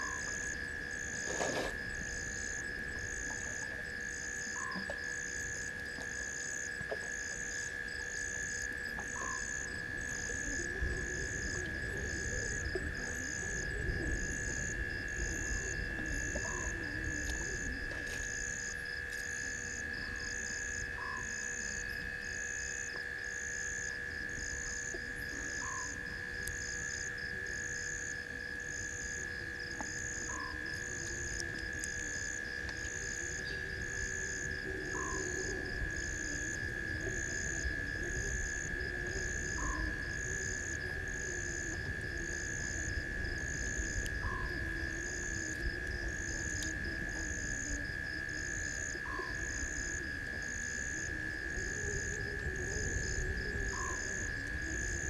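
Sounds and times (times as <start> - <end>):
high-pitched insect trill: 0.0 - 55.0.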